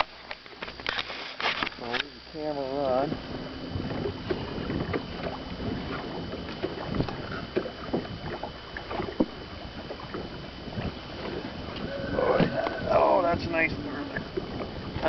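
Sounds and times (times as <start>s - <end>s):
steady background hiss: 0.0s - 15.0s
knocks and bumps in a boat: 2.9s - 15.0s.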